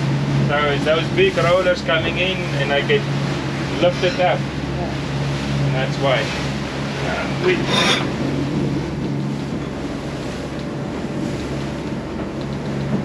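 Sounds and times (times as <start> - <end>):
sea noise: 0.0 - 13.0
wind: 0.0 - 13.0.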